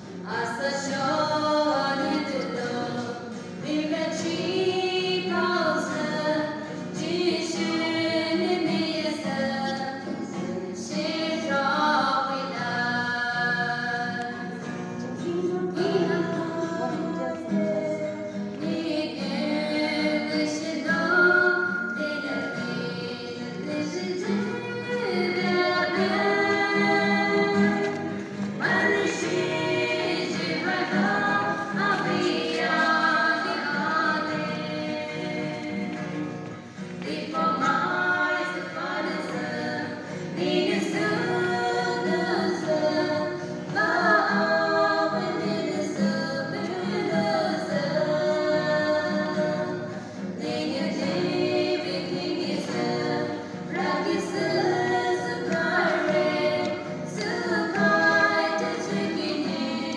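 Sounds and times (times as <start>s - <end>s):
strummed acoustic guitar: 0.0s - 59.9s
women singing a hymn in harmony: 0.0s - 59.9s.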